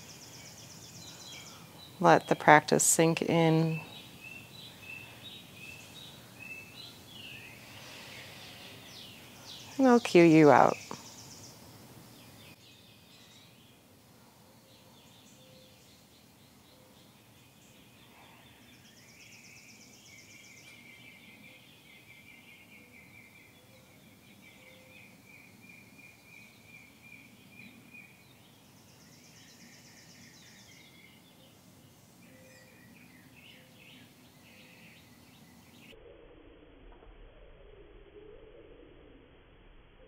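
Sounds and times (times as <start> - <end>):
birds chirping and trilling: 0.0 - 36.0
steady background hiss: 0.0 - 36.0.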